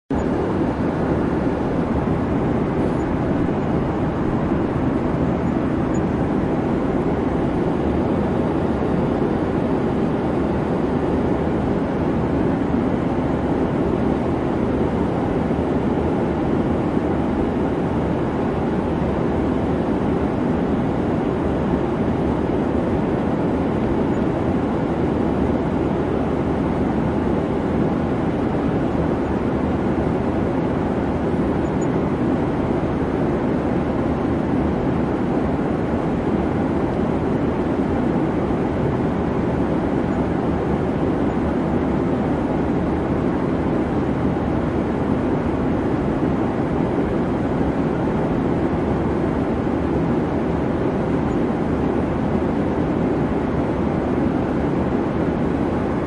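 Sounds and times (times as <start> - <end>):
jet airliner drone: 0.1 - 56.0.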